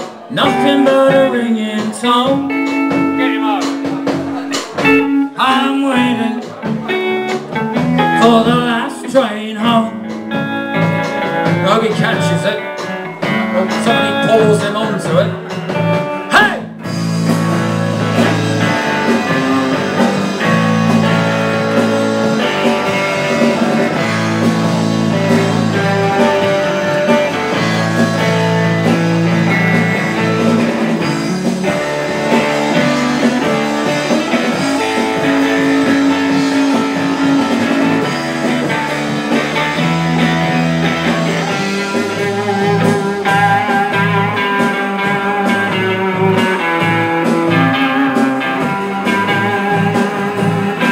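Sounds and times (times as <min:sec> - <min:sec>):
rock guitars playing: 0:00.0 - 0:50.9.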